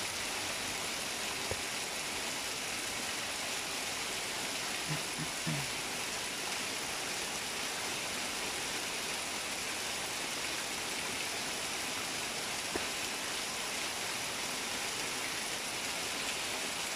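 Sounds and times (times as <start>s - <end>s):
rain on leaves and roof: 0.0s - 16.9s.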